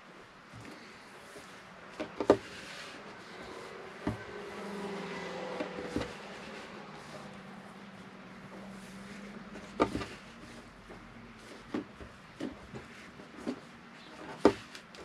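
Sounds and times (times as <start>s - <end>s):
rope rustling: 0.0s - 15.0s.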